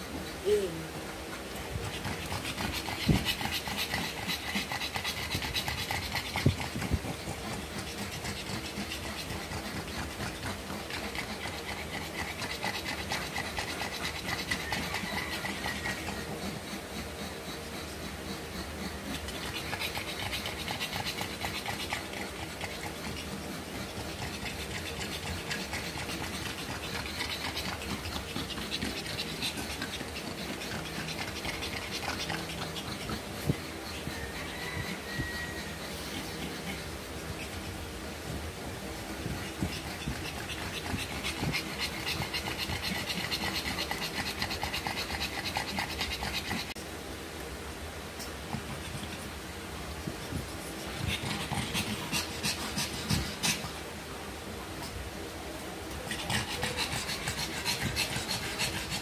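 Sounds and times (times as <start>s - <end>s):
dog panting fast: 0.0s - 46.8s, 48.4s - 53.9s, 55.8s - 59.0s.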